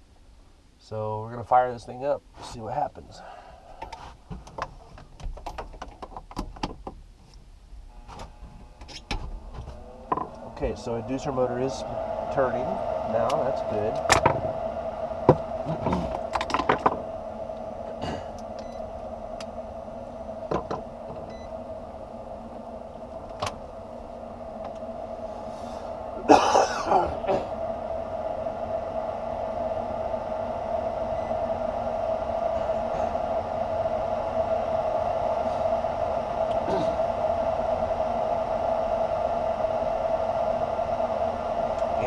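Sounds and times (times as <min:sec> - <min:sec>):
furnace motor humming: 0:02.4 - 0:06.7, 0:07.6 - 0:42.0.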